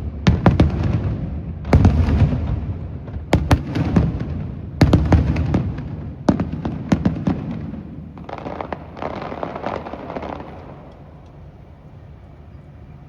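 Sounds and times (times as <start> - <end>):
fireworks banging: 0.0 - 11.6
fireworks crackling: 0.0 - 12.0.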